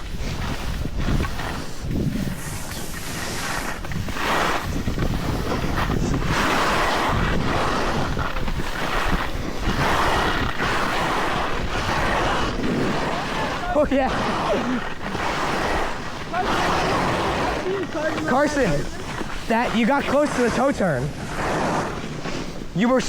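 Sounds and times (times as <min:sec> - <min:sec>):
wind on microphone: 0:00.0 - 0:22.8
snowboard scraping packed snow: 0:00.0 - 0:23.0.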